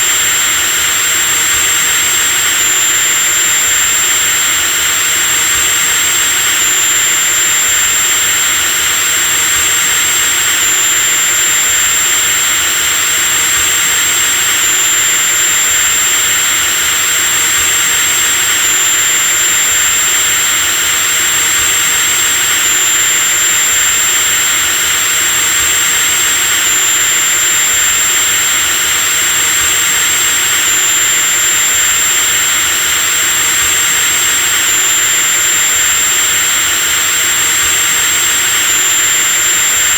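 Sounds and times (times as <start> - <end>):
electric drill motor whine: 0.0 - 39.9.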